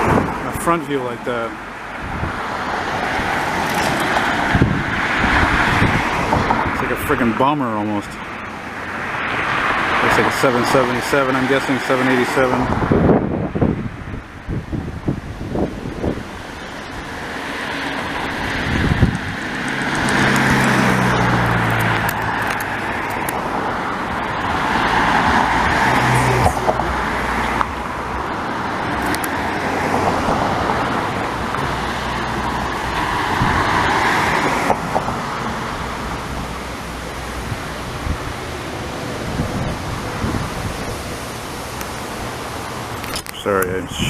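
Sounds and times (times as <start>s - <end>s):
wind on microphone: 0.0s - 0.7s, 1.9s - 7.0s, 12.4s - 44.0s.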